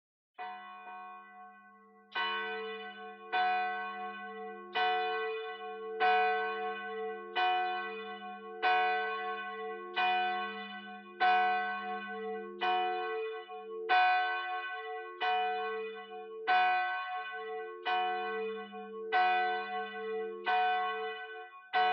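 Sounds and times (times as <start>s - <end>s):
church bell tolling: 0.4s - 21.9s.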